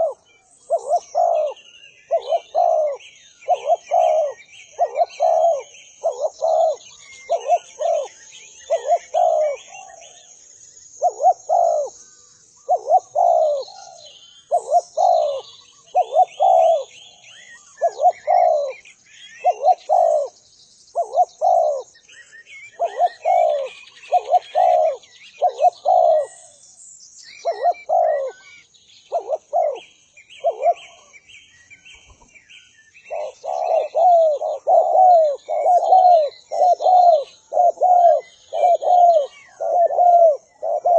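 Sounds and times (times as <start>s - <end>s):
dove cooing: 0.0s - 10.2s, 11.0s - 12.0s, 12.6s - 22.0s, 22.8s - 26.6s, 27.4s - 31.2s, 33.1s - 40.9s
small birds chirping: 0.0s - 40.9s.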